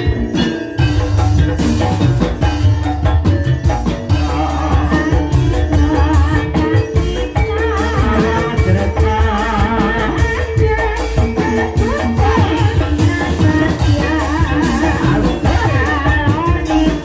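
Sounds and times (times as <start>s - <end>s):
drum strokes: 0.0s - 17.0s
gamelan music playing: 0.0s - 17.0s.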